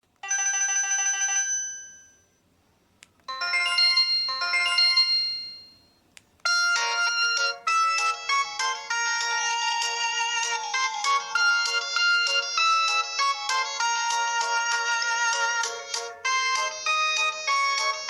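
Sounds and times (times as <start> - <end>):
phone ringtone melodies: 0.2 - 2.4, 3.3 - 18.0.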